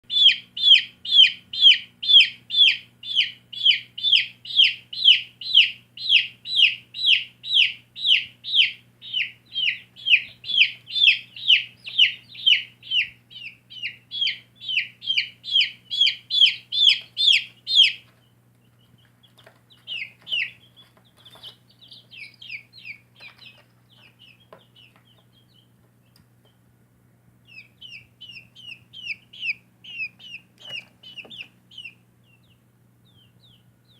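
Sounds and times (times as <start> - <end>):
baby chicks peeping: 0.0 - 33.9.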